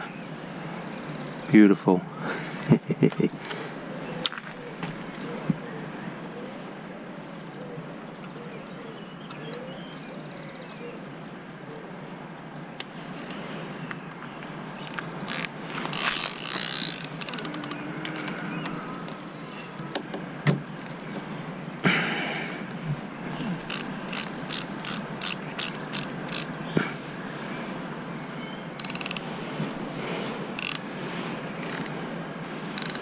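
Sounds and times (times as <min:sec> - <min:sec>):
insect chirping: 0:00.0 - 0:33.0
outdoor background noise: 0:00.0 - 0:33.0.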